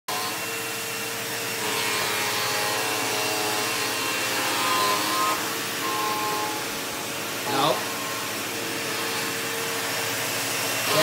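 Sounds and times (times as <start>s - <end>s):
vacuum cleaner running: 0.1s - 11.0s.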